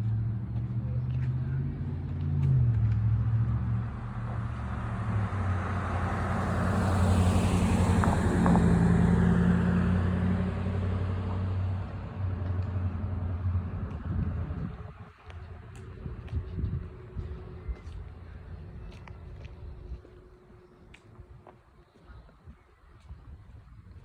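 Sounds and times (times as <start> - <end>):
vehicle passing by: 0.0 - 21.2.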